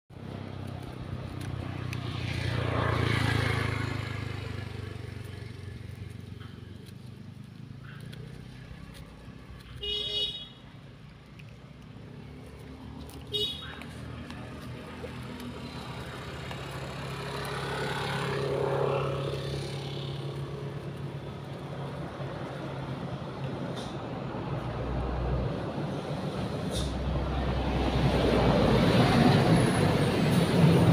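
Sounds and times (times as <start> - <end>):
low engine hum: 0.1 - 30.9
vehicle driving past: 0.2 - 9.6, 12.0 - 30.9.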